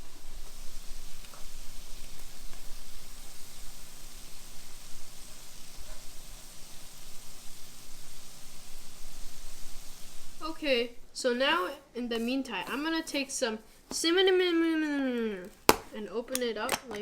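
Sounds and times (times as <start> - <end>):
dough sizzling in hot oil: 0.0 - 16.6.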